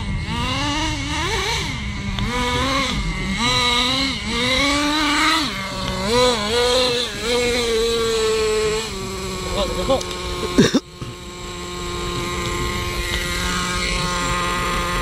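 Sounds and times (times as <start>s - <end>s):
small engine revving: 0.0s - 15.0s.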